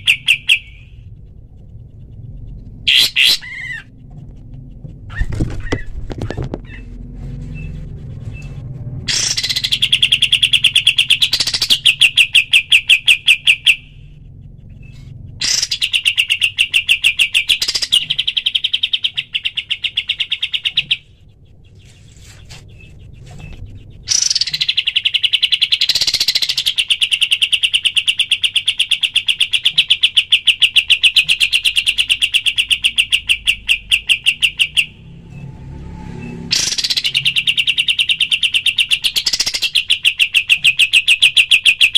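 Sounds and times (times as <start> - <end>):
bird singing rapid sharp notes: 0.0 - 6.9, 7.5 - 35.5, 36.2 - 41.9.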